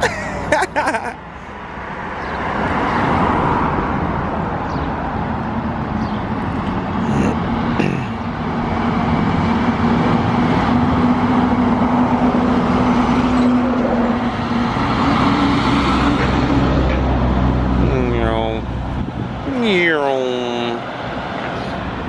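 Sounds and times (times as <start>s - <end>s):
bus diesel engines passing: 0.0s - 22.0s.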